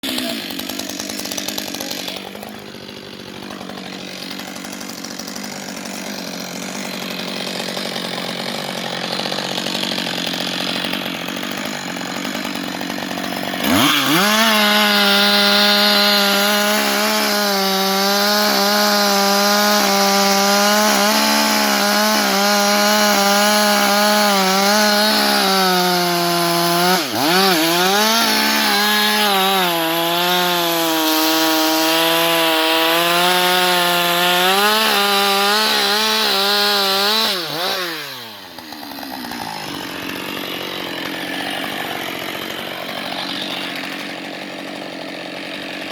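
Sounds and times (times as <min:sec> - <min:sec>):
chainsaw engine running high: 0:00.0 - 0:45.9.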